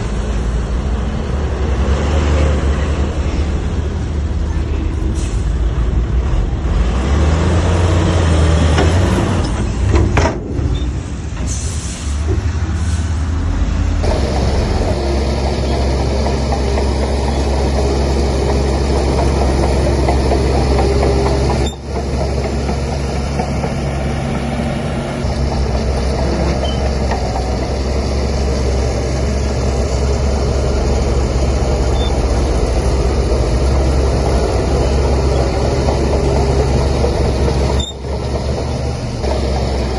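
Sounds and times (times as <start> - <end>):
heavy diesel machinery humming: 0.0 - 39.9.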